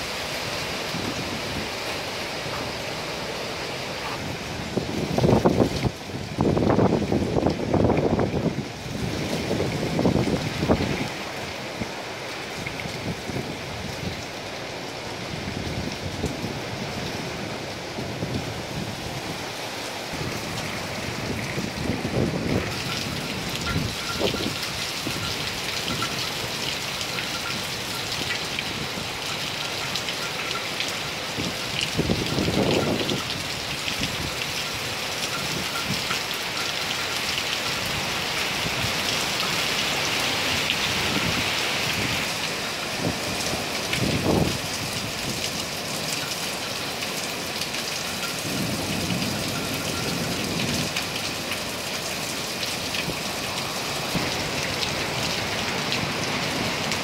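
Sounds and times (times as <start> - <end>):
heavy rain falling: 0.0 - 57.0
wind gusts: 0.0 - 57.0.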